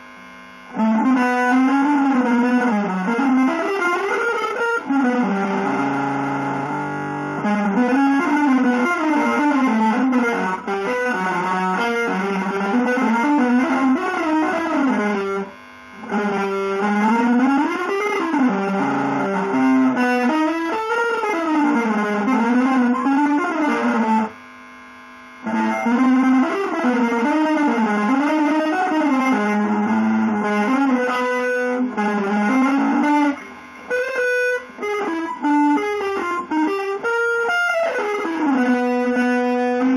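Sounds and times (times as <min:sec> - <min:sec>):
distorted electric guitar melody: 0:00.0 - 0:39.9.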